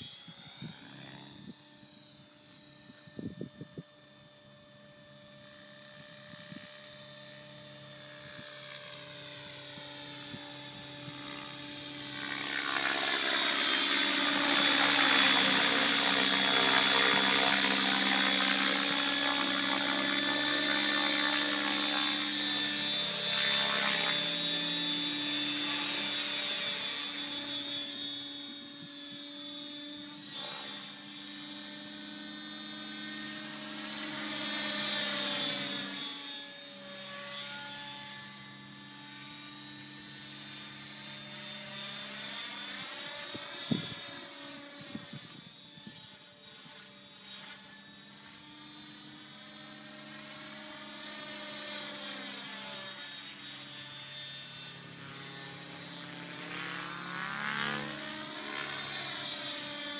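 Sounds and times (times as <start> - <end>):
rc helicopter motor whine: 0.0 - 59.9.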